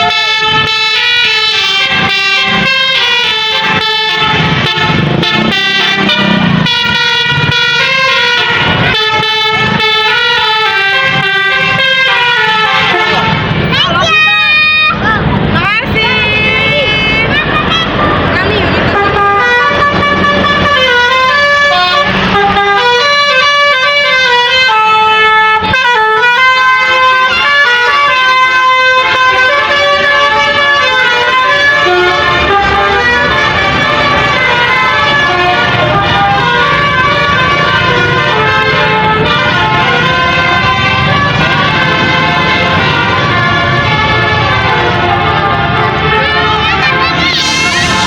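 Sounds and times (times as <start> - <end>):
musical horn playing a tune: 0.0 - 15.0, 16.7 - 18.2, 18.8 - 48.0.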